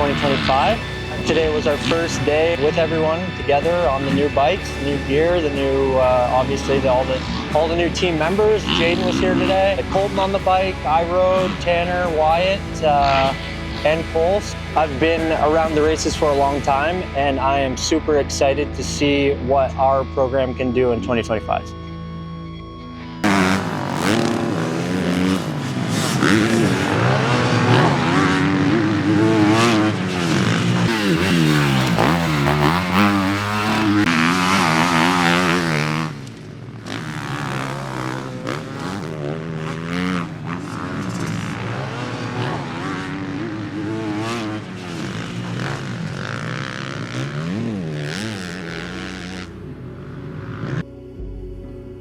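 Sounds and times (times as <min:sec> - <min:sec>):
dirt bike engines revving: 0:00.0 - 0:22.0, 0:22.6 - 0:51.2.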